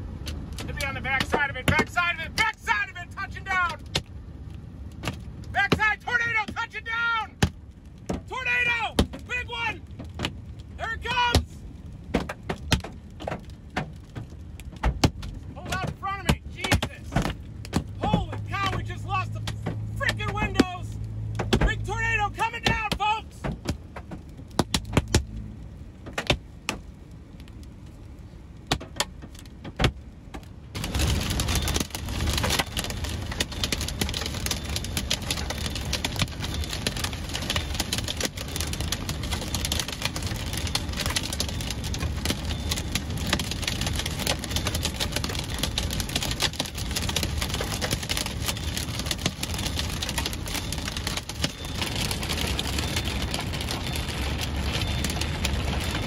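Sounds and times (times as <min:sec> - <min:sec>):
heavy rain beating on car: 0:00.0 - 0:56.0
low road rumble: 0:00.0 - 0:56.0.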